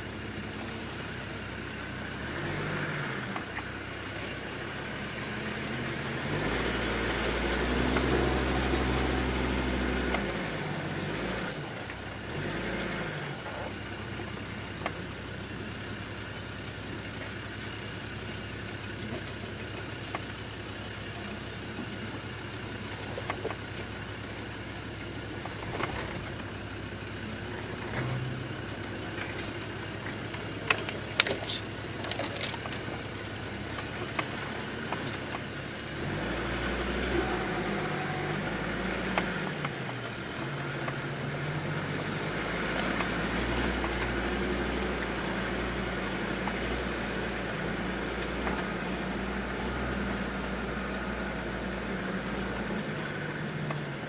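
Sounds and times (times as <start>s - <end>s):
diesel engine pulling off-road: 0.0s - 54.0s.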